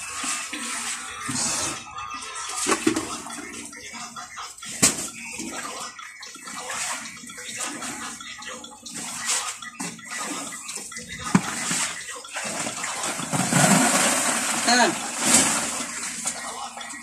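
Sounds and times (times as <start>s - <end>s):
water splashing in a well: 0.0s - 3.7s, 4.9s - 17.0s.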